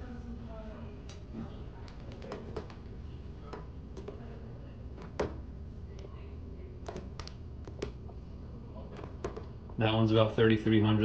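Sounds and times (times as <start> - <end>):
low steady room hum: 0.0 - 11.0.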